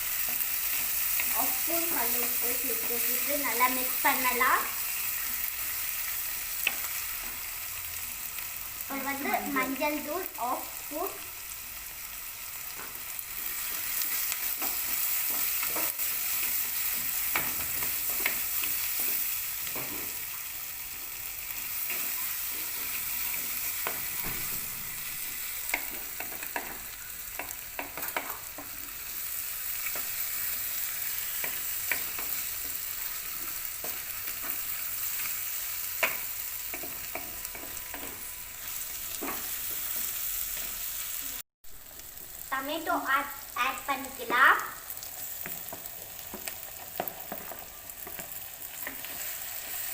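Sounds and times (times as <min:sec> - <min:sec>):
vegetables sizzling in a pot: 0:00.0 - 0:49.9.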